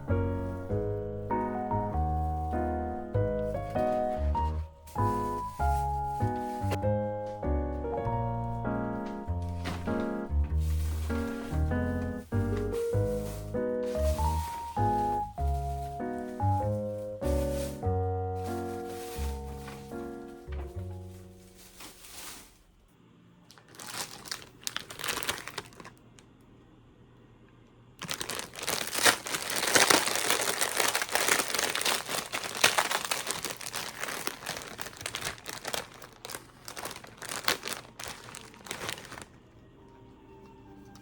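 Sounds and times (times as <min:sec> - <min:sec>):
packaging crinkling: 0:00.0 - 0:06.8, 0:08.3 - 0:22.7, 0:23.5 - 0:26.2, 0:28.0 - 0:39.4.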